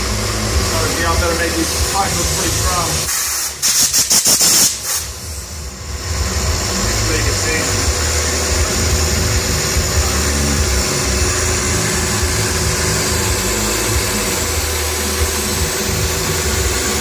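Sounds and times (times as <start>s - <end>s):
milling machine cutting: 0.0s - 3.6s, 5.8s - 17.0s
coolant mist hissing: 0.0s - 17.0s.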